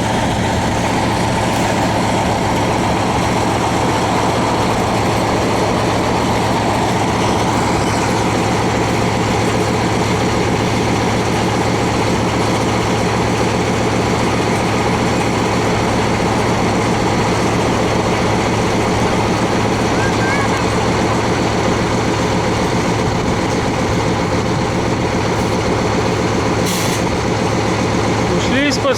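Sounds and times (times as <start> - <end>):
large engine running: 0.0 - 28.9.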